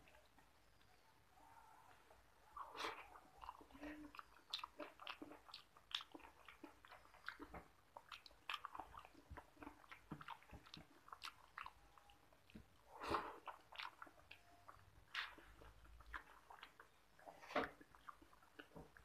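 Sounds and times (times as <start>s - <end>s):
mouth sounds eating: 0.0s - 19.0s
wet clicks and squelches of mixing: 3.1s - 12.8s, 13.4s - 19.0s.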